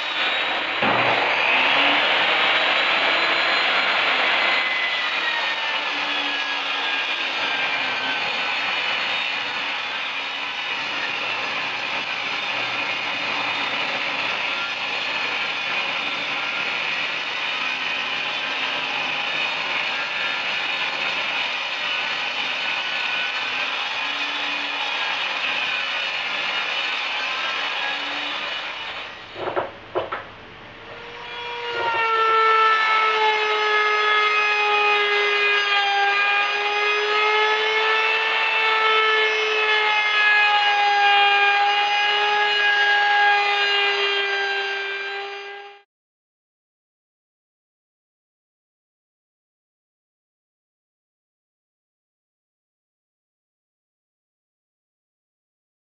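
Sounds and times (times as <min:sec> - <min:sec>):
woodworking power tool running: 0:00.0 - 0:45.8.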